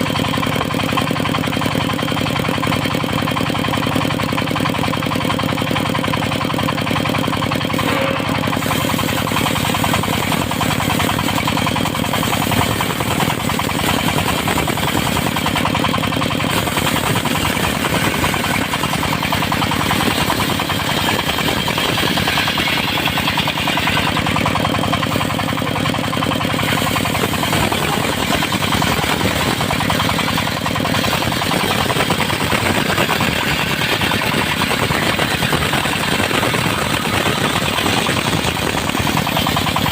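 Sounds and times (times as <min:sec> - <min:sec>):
circular sawmill sawing wood: 0:00.0 - 0:39.9
engine rapid knocking: 0:00.0 - 0:39.9.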